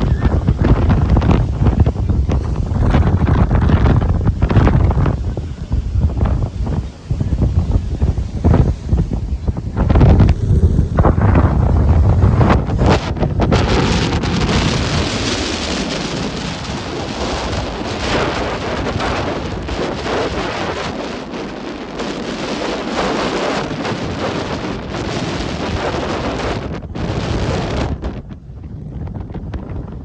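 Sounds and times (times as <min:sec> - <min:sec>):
waves breaking: 0:00.0 - 0:28.4
wind buffeting microphone: 0:00.0 - 0:30.0.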